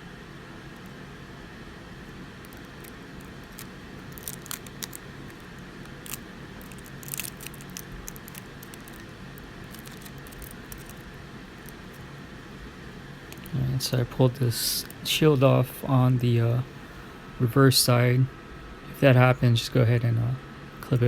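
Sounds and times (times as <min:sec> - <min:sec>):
low fan hum: 0:00.0 - 0:21.0.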